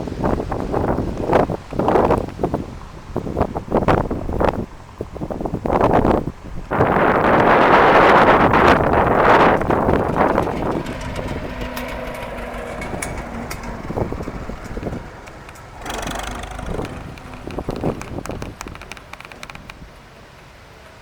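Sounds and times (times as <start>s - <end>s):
tractor engine running: 0.0s - 21.0s
wind buffeting microphone: 0.0s - 21.0s.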